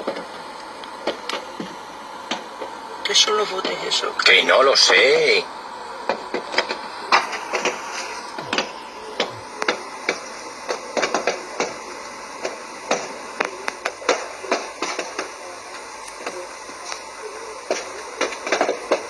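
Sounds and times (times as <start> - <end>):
sharp pops and bangs in fire: 0.0 - 2.8, 6.0 - 19.0.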